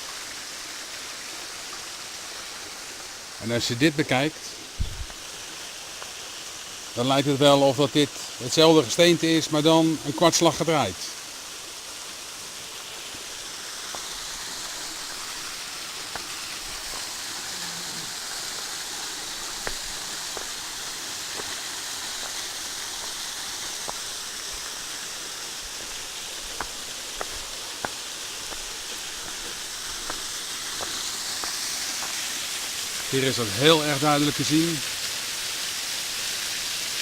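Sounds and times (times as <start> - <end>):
waterfall hissing: 0.0 - 37.0.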